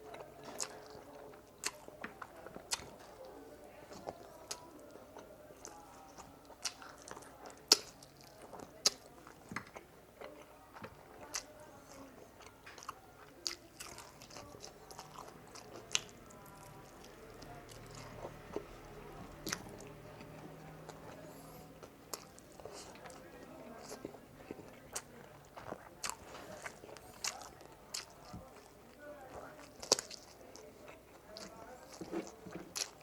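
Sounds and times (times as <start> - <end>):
person chewing and crunching: 0.0 - 3.3, 3.9 - 33.0.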